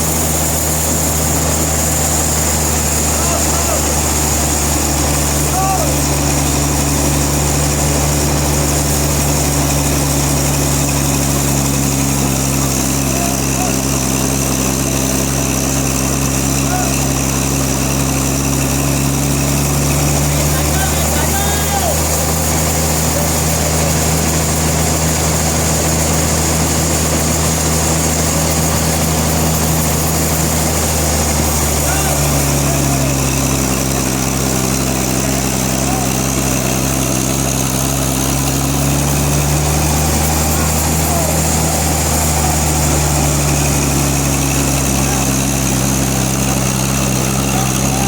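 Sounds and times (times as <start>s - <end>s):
high machine whine: 0.0s - 48.0s
sawmill engine running: 0.0s - 48.0s.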